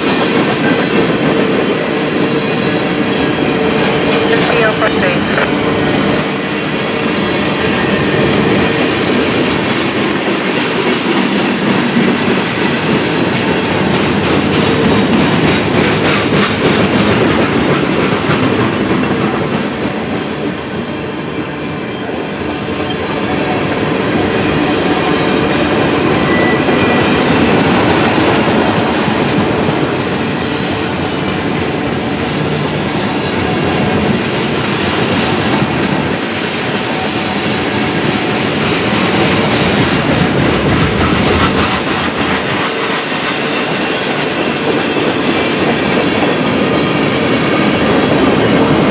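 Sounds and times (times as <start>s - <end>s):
train wheels clacking over rail joints: 0.0s - 4.3s, 6.2s - 20.6s, 21.4s - 48.9s.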